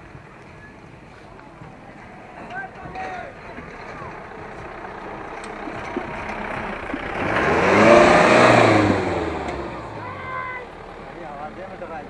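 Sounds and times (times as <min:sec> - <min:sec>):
car engine driving past: 0:00.5 - 0:12.0.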